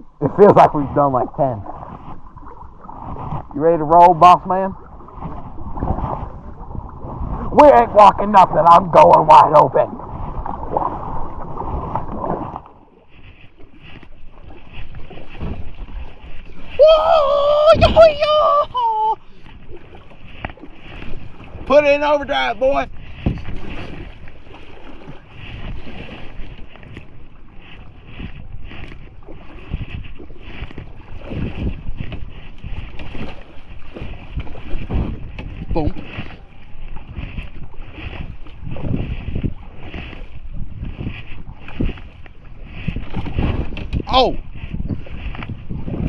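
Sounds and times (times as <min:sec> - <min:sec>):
creek water rushing and splashing: 0:00.0 - 0:46.0
wind rumbling on microphone: 0:00.0 - 0:46.0.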